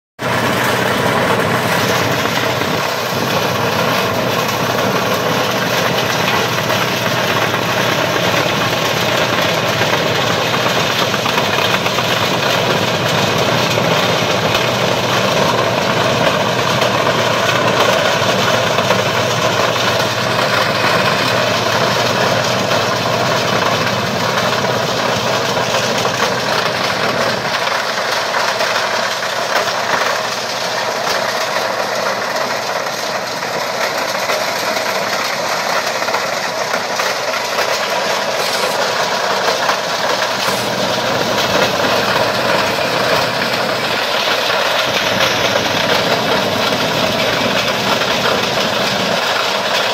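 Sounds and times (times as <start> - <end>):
tractor engine under load: 0.2 - 49.9.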